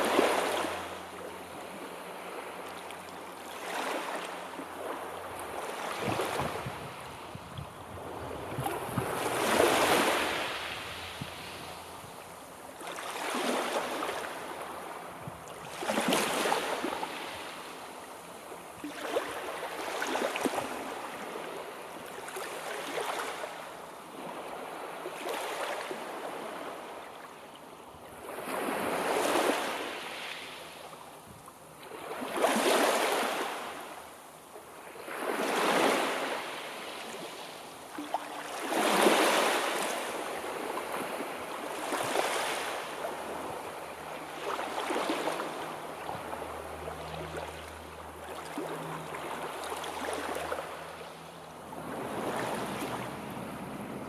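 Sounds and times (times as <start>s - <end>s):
sea waves washing in: 0.0s - 27.1s, 28.1s - 54.0s.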